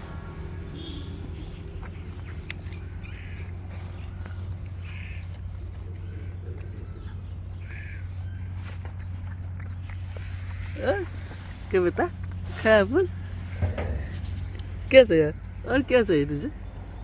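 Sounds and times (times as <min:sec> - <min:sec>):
harsh bird calls: 0:00.0 - 0:17.0.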